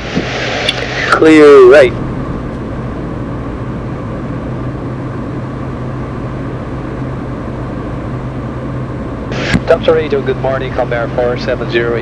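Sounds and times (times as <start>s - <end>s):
low hum: 0.0s - 12.0s
turboprop engines droning: 0.0s - 12.0s.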